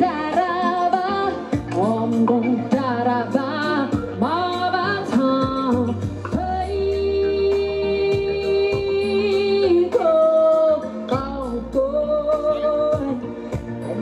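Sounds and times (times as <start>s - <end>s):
musical accompaniment with low bass: 0.0s - 14.0s
woman singing into a microphone: 0.0s - 14.0s.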